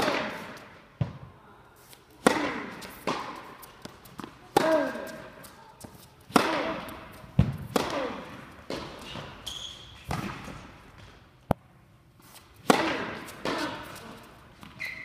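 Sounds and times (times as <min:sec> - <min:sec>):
tennis balls bouncing on hard court: 0:00.0 - 0:01.3, 0:02.2 - 0:11.6, 0:12.6 - 0:14.9
tennis balls struck by rackets: 0:00.0 - 0:01.3, 0:02.2 - 0:09.4, 0:10.0 - 0:11.6, 0:12.6 - 0:14.8.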